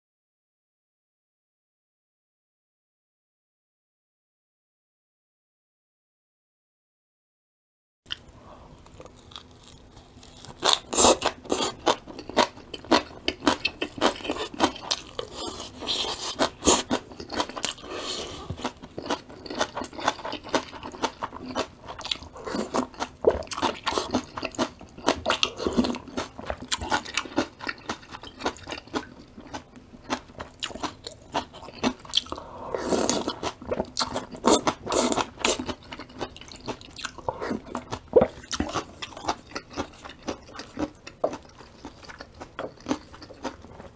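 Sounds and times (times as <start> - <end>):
person chewing crunchy vegetables: 8.1 - 43.9.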